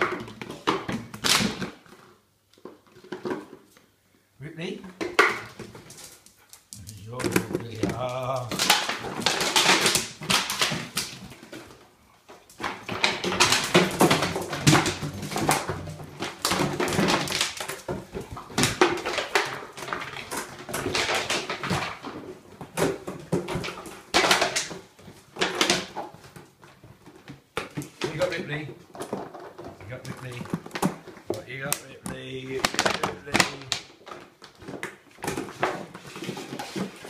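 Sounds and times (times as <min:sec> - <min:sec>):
plastic bottles crinkling: 0:06.8 - 0:37.0.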